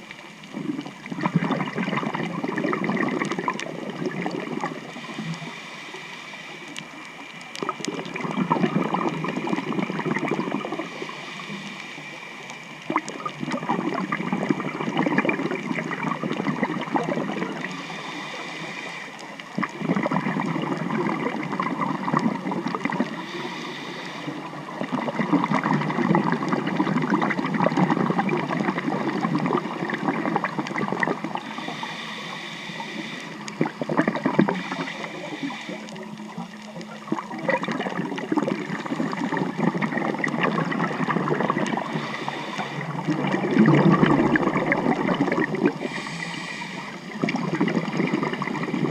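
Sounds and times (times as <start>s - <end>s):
underwater scuba bubbles gurgling: 0.0s - 48.9s.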